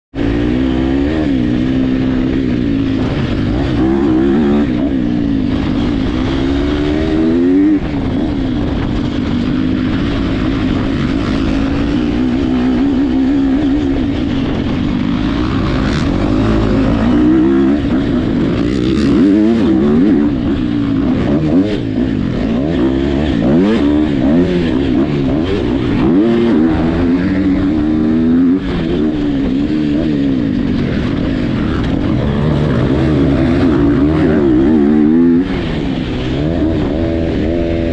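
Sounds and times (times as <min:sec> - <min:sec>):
dirt bike engines revving: 0:00.2 - 0:37.9.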